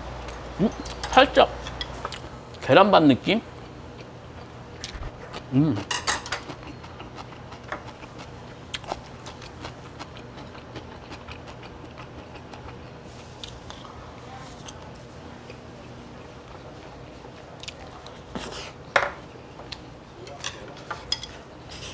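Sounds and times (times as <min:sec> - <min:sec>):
low room hum: 0:00.0 - 0:21.9
soft chewing: 0:03.6 - 0:21.9.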